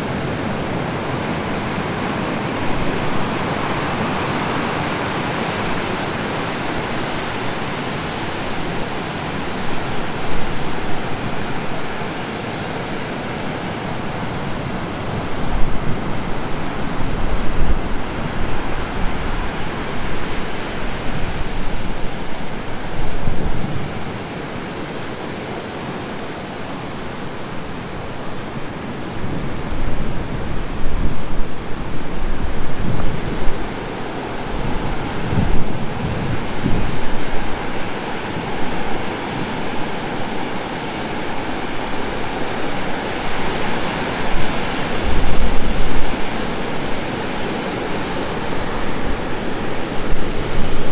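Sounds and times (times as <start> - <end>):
waves breaking roar: 0.0 - 50.9.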